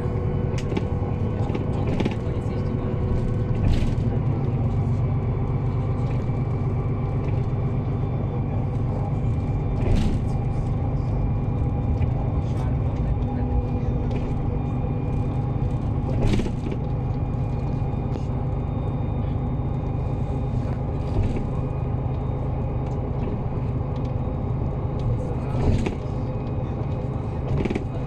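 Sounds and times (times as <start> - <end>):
bus diesel engine drone: 0.0 - 28.0
road rumble: 0.0 - 28.0.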